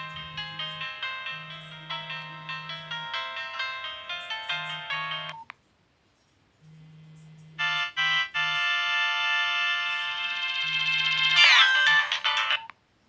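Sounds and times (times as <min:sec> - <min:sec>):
phone ringtone chords: 0:00.0 - 0:05.5, 0:06.7 - 0:12.7
phone ringtone melody: 0:00.0 - 0:05.5, 0:06.7 - 0:12.7.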